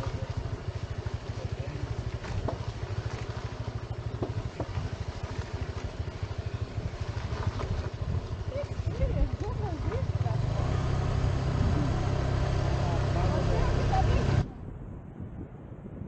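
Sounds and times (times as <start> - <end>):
scooter engine rumble: 0.0 - 15.9.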